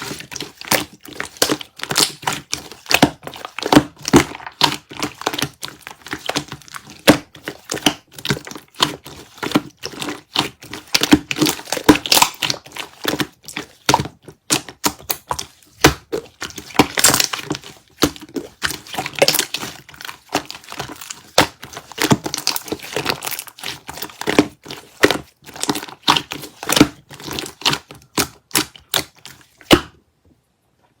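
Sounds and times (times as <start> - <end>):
slime squished by hand: 0.0 - 29.9.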